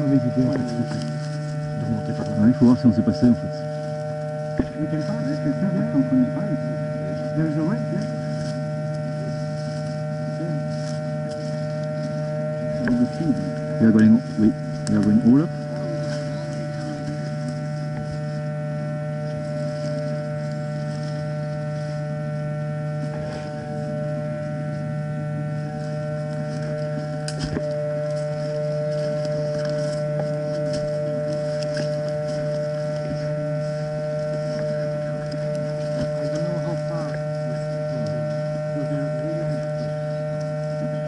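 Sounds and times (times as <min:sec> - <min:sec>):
footsteps through undergrowth: 0:00.0 - 0:40.7
steady electrical hum: 0:00.0 - 0:41.0.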